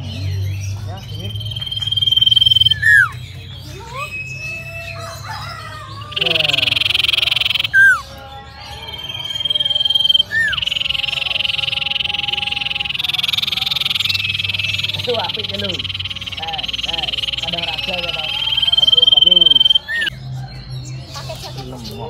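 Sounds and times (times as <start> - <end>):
bird singing trills and whistles: 0.0 - 22.0.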